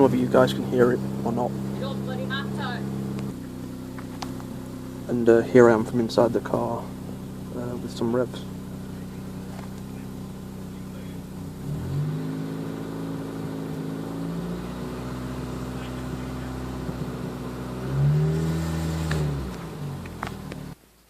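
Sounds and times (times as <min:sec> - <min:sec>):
car engine idling and revving: 0:00.0 - 0:20.8.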